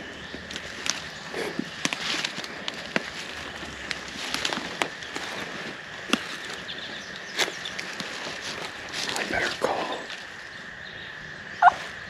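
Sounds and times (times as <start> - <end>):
footsteps crunching dry leaves: 0.0 - 10.8.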